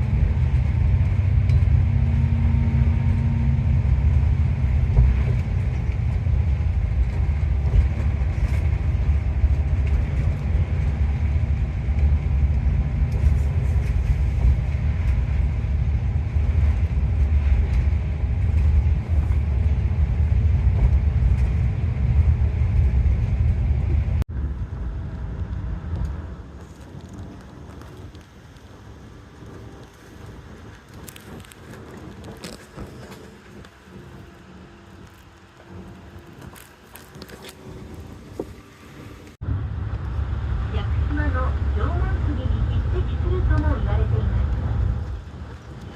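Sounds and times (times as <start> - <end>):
bus engine and road noise: 0.0 - 45.9.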